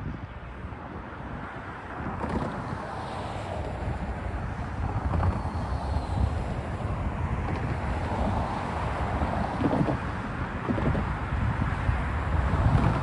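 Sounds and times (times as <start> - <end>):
wind buffeting microphone: 0.0 - 13.0
cars driving past: 0.3 - 13.0.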